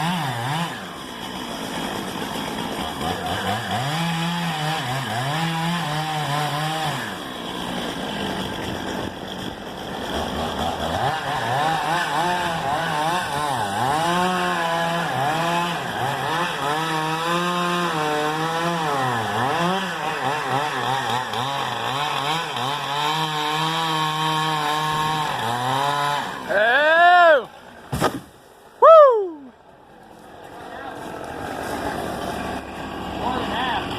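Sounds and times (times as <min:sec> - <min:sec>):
chainsaw cutting wood: 0:00.0 - 0:28.8, 0:31.0 - 0:33.9.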